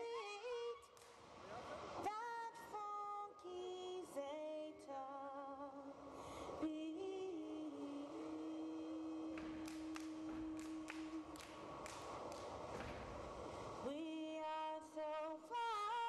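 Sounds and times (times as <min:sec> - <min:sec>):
women singing a cappella: 0:00.0 - 0:01.0, 0:02.0 - 0:11.8, 0:13.8 - 0:16.0.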